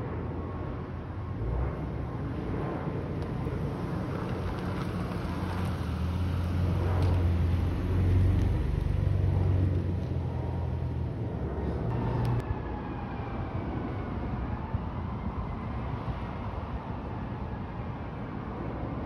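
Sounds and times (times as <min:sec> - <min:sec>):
jet airliner engine rumble: 0:00.0 - 0:19.0.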